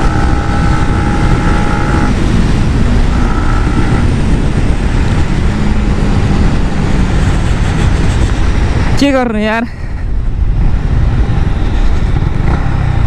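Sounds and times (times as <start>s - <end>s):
motorcycle engine running: 0.0s - 9.2s, 9.8s - 13.0s
wind rushing over microphone: 0.0s - 13.0s.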